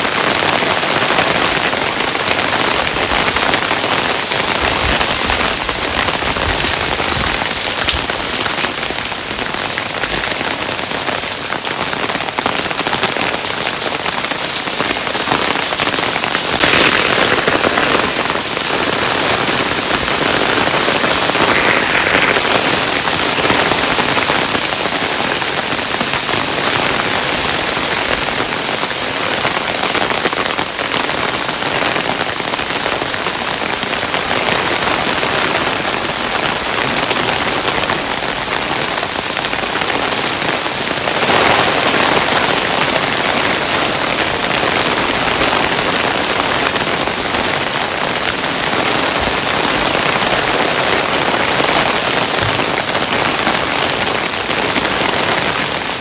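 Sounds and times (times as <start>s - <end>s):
hailstones falling: 0.1s - 56.0s.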